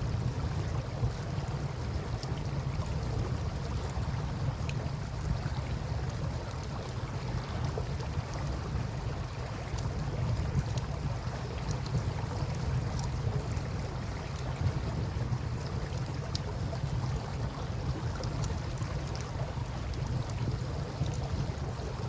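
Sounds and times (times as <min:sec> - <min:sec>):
river water rumbling: 0:00.0 - 0:22.0
campfire crackling: 0:00.1 - 0:22.0.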